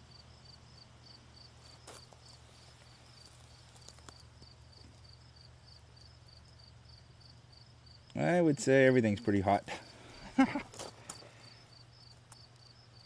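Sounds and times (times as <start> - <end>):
faint insect chirping: 0.0 - 13.0
low steady hum: 0.0 - 13.0.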